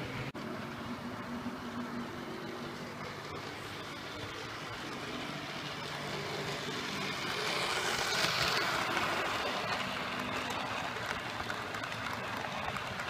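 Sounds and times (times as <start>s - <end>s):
model train running on rails: 0.0s - 13.0s.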